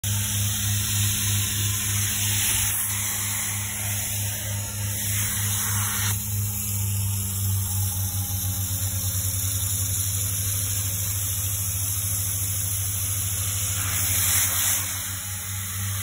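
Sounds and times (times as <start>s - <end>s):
extraction machine humming: 0.0s - 9.5s, 12.6s - 16.0s
vacuum suction hiss: 0.0s - 16.0s.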